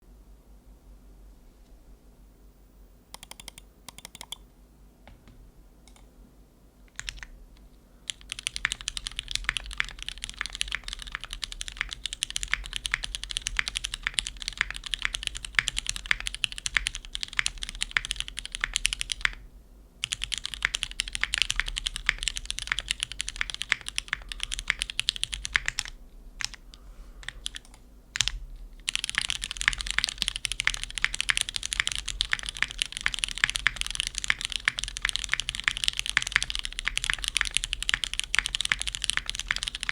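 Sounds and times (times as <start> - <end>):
mechanical keyboard typing: 3.1 - 4.4, 6.9 - 7.3, 8.1 - 19.4, 20.0 - 39.9.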